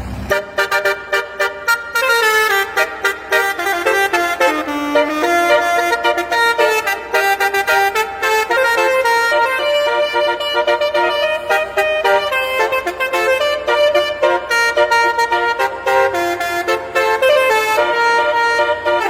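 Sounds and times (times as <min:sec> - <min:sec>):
truck musical horn melody: 0:00.1 - 0:19.0.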